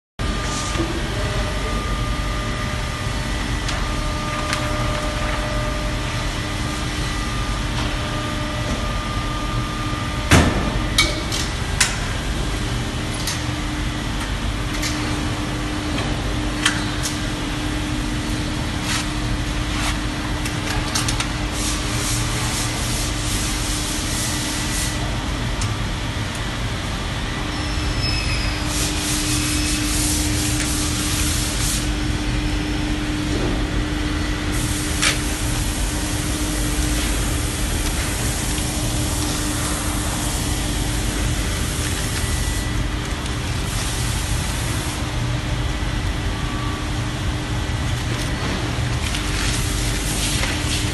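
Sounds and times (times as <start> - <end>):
machine hum: 0.2 - 50.9.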